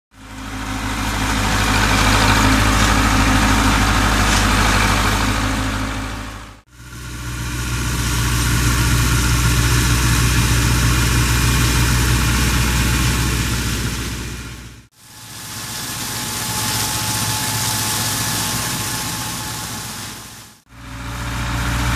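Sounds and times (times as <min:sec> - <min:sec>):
machine humming: 0:00.2 - 0:21.9.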